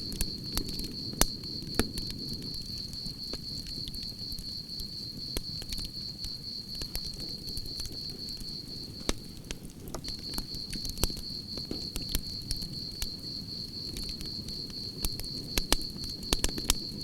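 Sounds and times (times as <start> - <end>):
campfire crackling and popping: 0.0 - 17.0
crickets chirping: 0.0 - 17.0.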